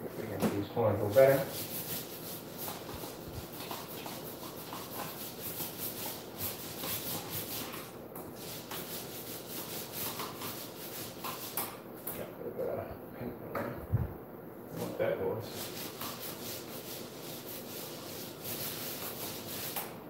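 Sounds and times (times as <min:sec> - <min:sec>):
paint applicator rubbing on wall: 0:00.8 - 0:11.8, 0:14.8 - 0:20.0.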